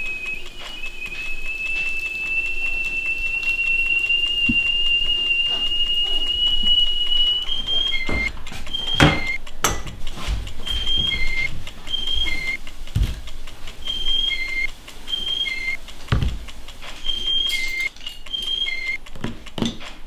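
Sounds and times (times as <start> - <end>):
alternating high and low tones: 0.0 - 19.6
stovetop kettle whistling: 0.0 - 20.0.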